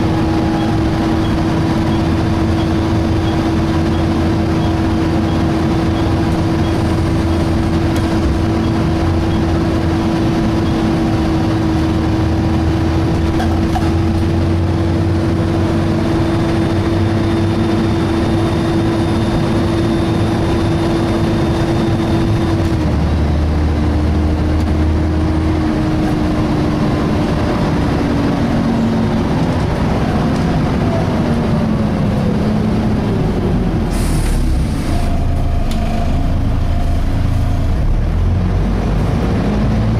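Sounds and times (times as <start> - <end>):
diesel engine rumble: 0.0 - 39.9.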